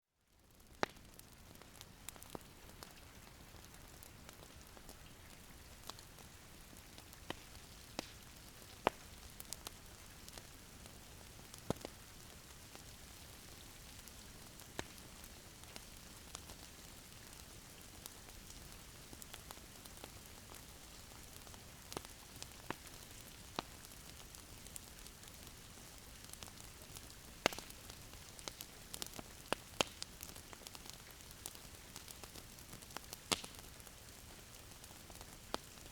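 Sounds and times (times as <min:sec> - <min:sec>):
wood fire crackling: 0:00.4 - 0:35.9.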